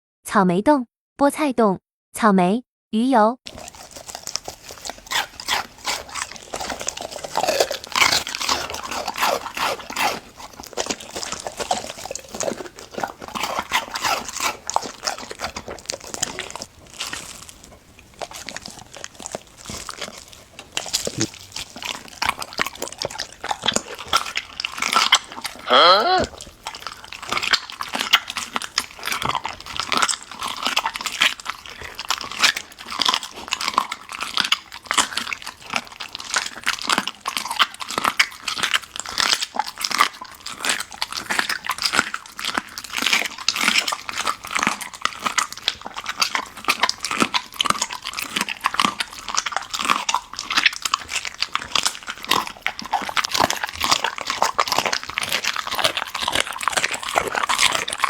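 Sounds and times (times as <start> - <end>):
dog chewing and crunching bone: 3.5 - 58.0.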